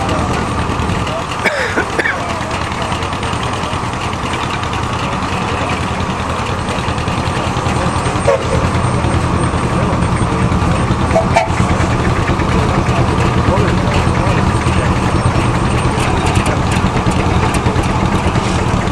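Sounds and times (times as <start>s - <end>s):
steam traction engine running: 0.0s - 18.9s.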